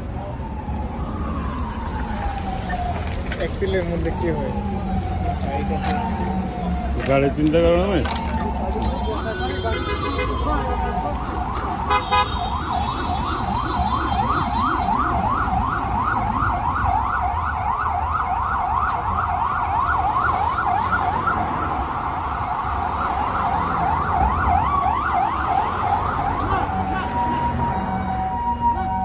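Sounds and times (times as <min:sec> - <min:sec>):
emergency vehicle siren: 0:00.0 - 0:29.0
low rumble of traffic: 0:00.0 - 0:29.0.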